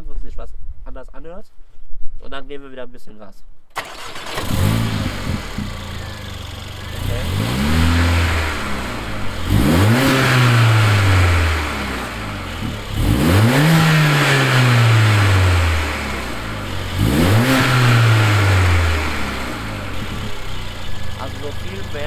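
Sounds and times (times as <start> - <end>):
car engine revving: 3.8 - 22.0.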